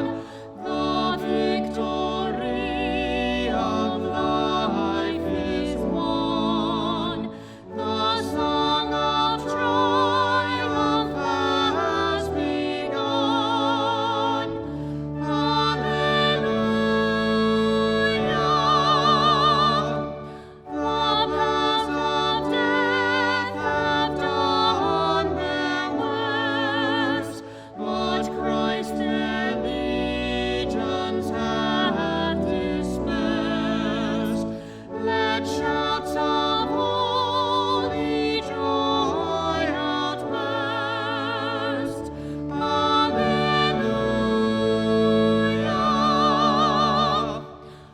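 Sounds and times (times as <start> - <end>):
person singing a hymn with vibrato: 0.0 - 47.9.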